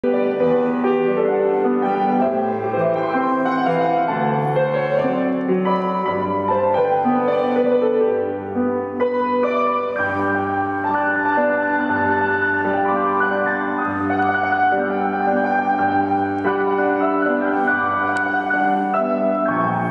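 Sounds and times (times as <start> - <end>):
slow grand piano music: 0.0 - 19.9.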